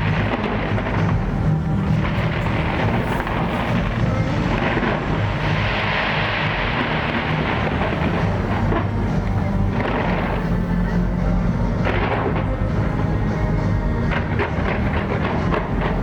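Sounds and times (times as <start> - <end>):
fireworks bursts rumbling: 0.0 - 16.0.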